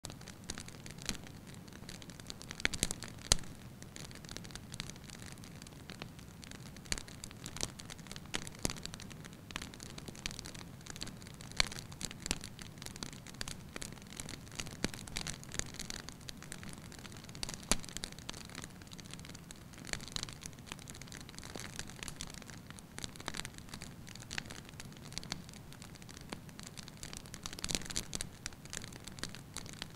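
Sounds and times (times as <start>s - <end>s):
fire crackling and popping: 0.1s - 29.9s.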